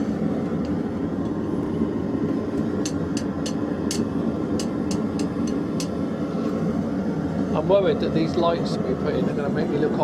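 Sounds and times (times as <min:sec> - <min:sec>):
forge roaring: 0:00.0 - 0:10.0.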